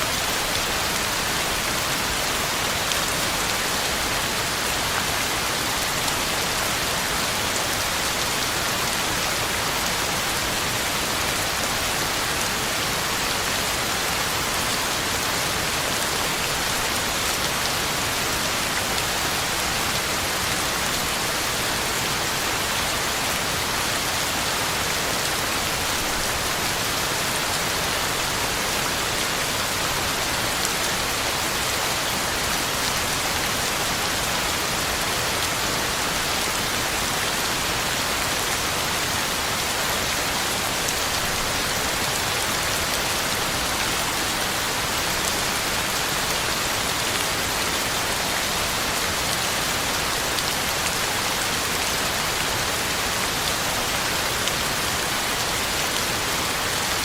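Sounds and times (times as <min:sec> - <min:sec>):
heavy rain on ground and leaves: 0:00.0 - 0:57.0.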